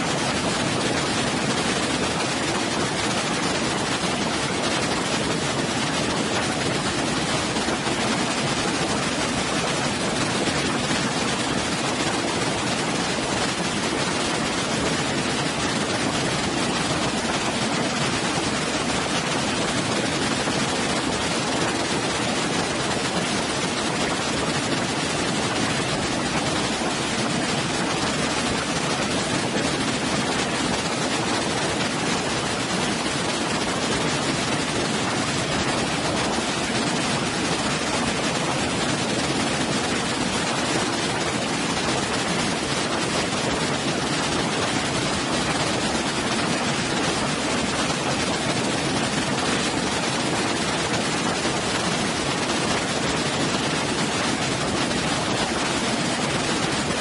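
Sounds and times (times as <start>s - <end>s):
water cascading over rocks: 0.0s - 57.0s.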